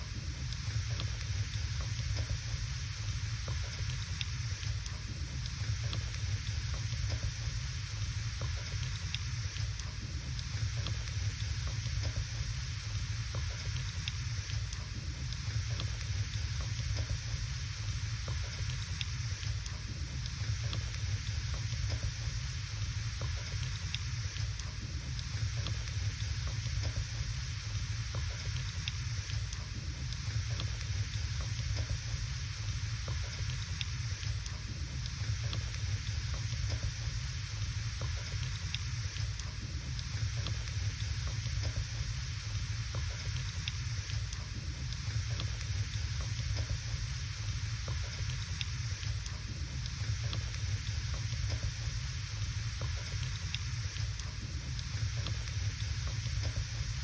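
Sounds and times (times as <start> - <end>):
fire hissing: 0.0 - 57.0.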